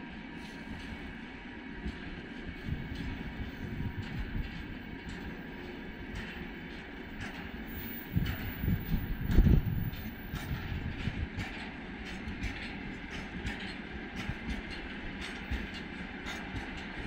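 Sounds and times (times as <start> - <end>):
freight train wheels rumbling: 0.0 - 17.0
wheels clicking over rail joints: 1.8 - 17.0.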